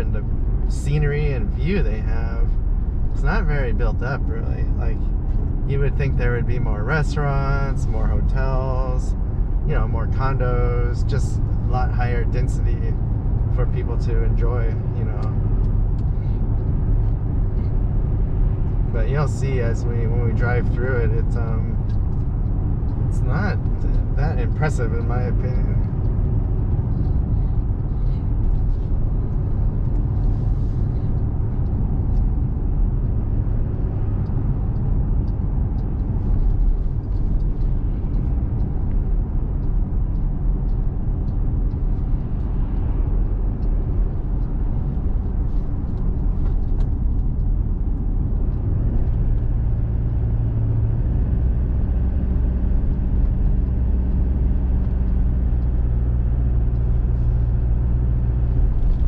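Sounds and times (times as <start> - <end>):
low engine hum: 0.0 - 59.0
truck cabin road rumble: 0.0 - 59.0.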